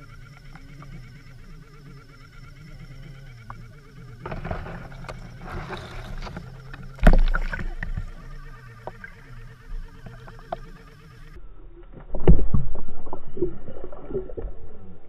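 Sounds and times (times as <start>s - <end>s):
low underwater hum: 0.0s - 15.0s.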